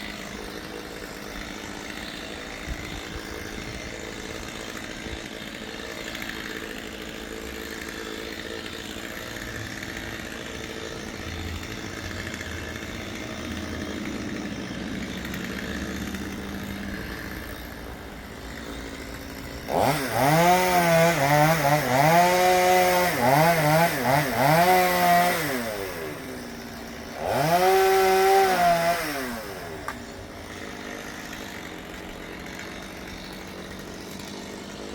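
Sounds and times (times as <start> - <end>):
chainsaw idling and revving: 0.0 - 34.9.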